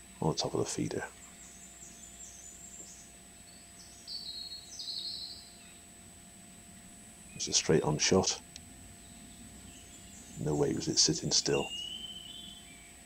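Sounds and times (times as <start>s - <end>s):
small bird singing: 0.0s - 6.0s, 6.8s - 13.0s
faint high whine: 0.0s - 13.0s.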